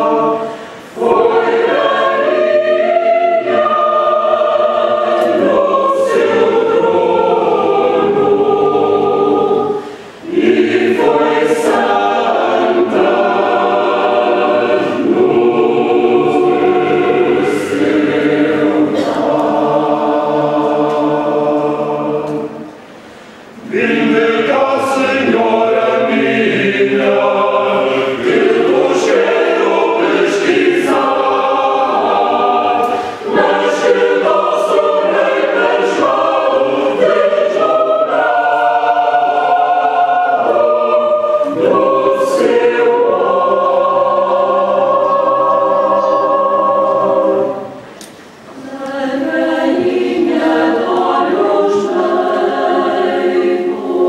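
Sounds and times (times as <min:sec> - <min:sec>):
choir singing a cappella: 0:00.0 - 0:54.0.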